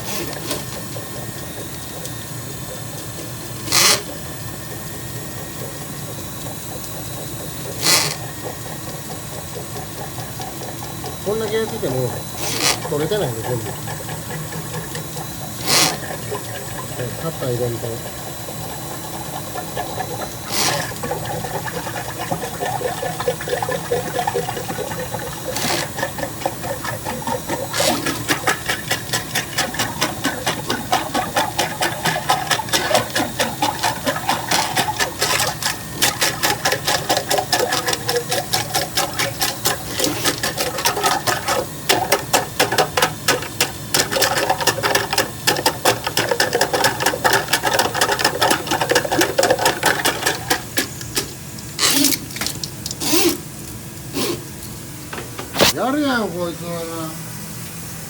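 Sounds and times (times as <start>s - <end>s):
drain-cleaning machine motor hum: 0.0s - 53.6s
spinning cable rattling: 3.6s - 53.3s.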